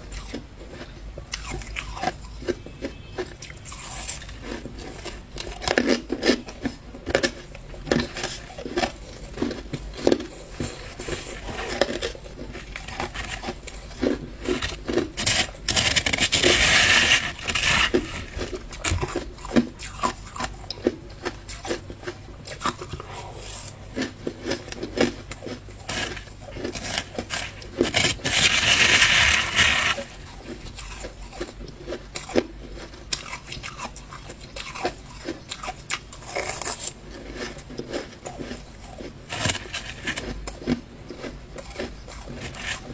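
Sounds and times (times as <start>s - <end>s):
ice crunching in mouth: 0.0s - 42.9s
long grinding crunch: 0.0s - 42.9s.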